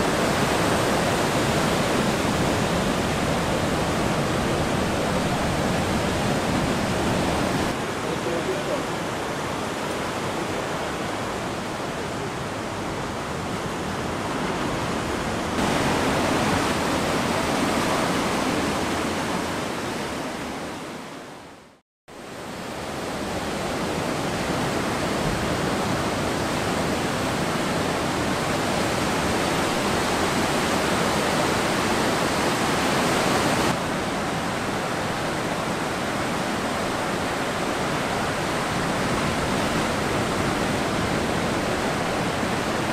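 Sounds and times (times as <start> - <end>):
ocean surf breaking: 0.0 - 21.7, 22.4 - 42.9.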